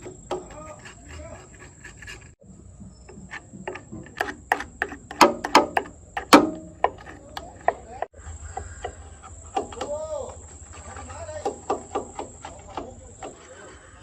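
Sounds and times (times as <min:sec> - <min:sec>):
hand tools knocking on metal: 0:00.0 - 0:13.7.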